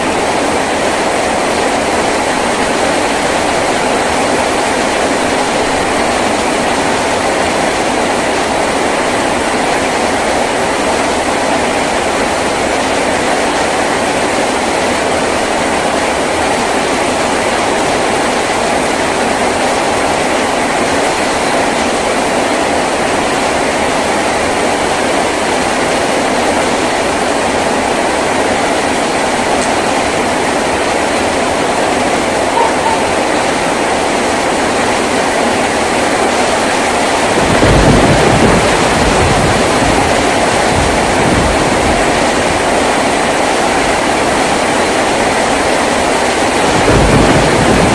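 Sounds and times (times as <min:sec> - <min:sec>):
heavy rain on a tin roof: 0:00.0 - 0:47.9.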